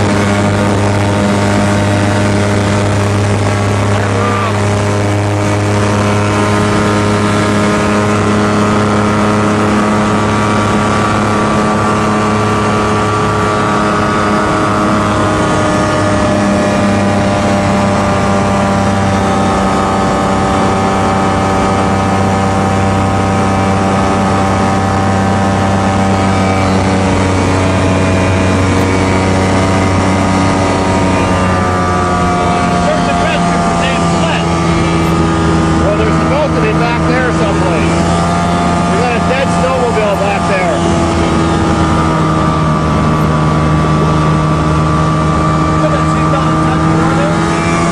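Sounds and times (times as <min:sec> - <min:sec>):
light airplane engine droning: 0:00.0 - 0:47.9.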